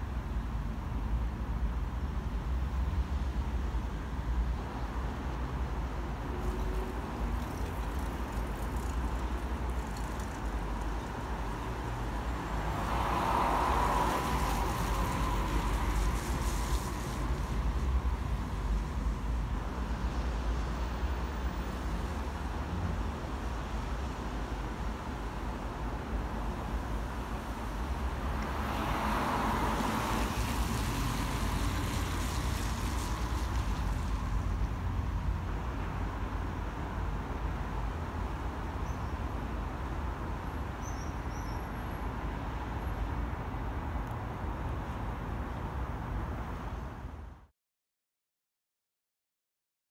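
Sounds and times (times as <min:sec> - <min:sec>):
low traffic rumble: 0:00.0 - 0:47.5
vehicles passing: 0:00.0 - 0:47.5.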